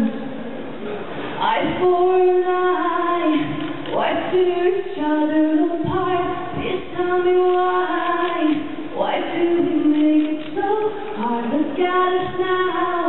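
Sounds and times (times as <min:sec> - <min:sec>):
woman singing long notes: 0:01.4 - 0:13.0.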